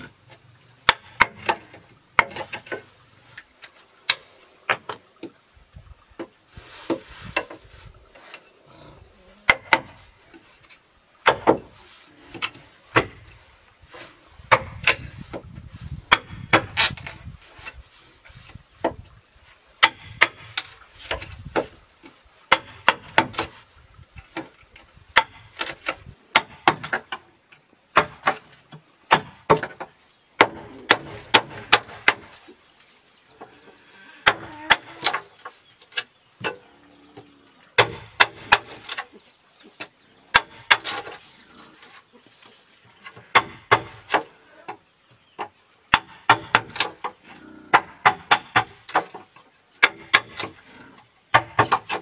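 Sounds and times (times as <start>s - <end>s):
chisel scraping bamboo: 0.0s - 5.4s, 6.2s - 8.6s, 9.4s - 27.3s, 28.0s - 36.7s, 37.8s - 52.0s.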